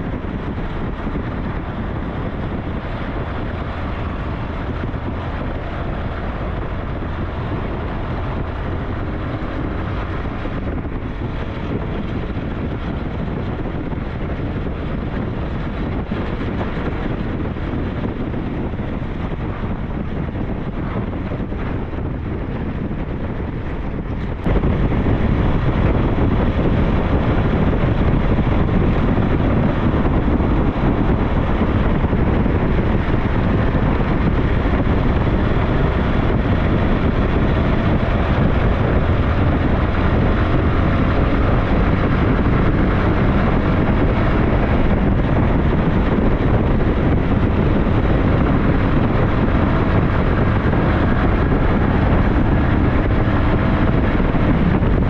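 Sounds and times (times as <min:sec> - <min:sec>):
motorcycle engine running: 0:00.0 - 0:55.0
wind rush over microphone: 0:00.0 - 0:55.0.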